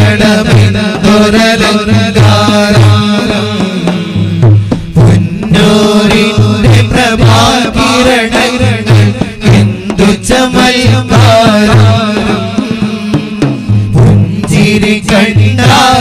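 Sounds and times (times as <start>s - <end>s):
men singing devotional song: 0.0s - 16.0s
repeating drum beat: 0.0s - 16.0s.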